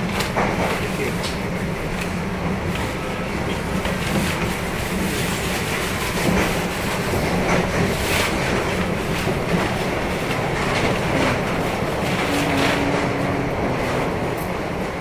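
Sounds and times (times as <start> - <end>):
clacks over rail joints: 0.0 - 15.0
train wheels rumbling on track: 0.0 - 15.0.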